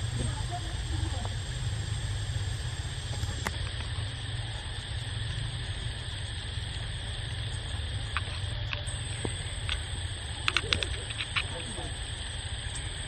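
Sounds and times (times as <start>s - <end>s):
high hiss: 0.0s - 13.0s.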